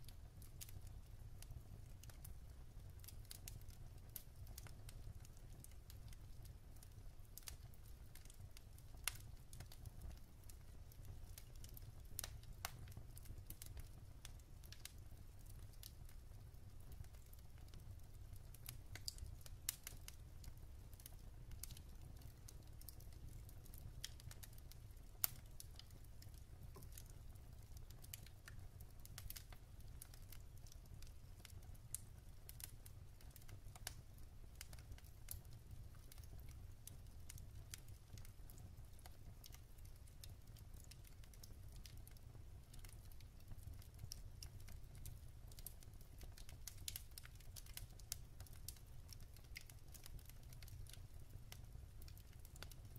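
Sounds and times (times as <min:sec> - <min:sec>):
fire snapping and popping: 0:00.0 - 0:52.9
wood fire crackling faintly: 0:00.0 - 0:52.9.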